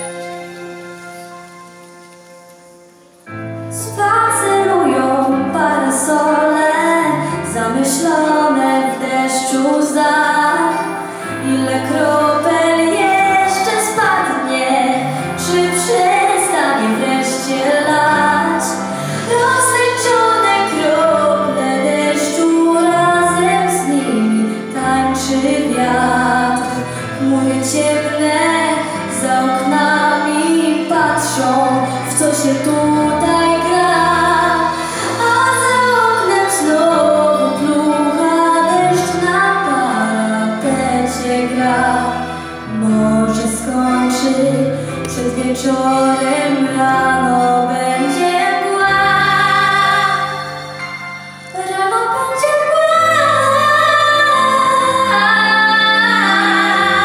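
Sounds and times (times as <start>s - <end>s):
instrumental accompaniment: 0.0s - 57.0s
girl singing into a microphone: 3.8s - 50.6s, 51.6s - 57.0s.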